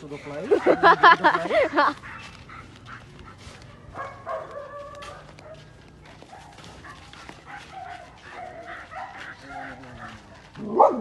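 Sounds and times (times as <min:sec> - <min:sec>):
dog barking and yipping: 0:00.5 - 0:11.0.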